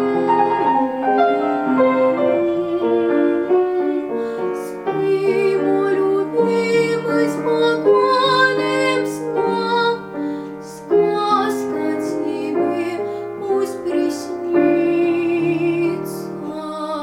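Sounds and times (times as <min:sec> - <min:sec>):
piano accompaniment: 0:00.0 - 0:17.0
girl singing a lullaby: 0:02.4 - 0:17.0.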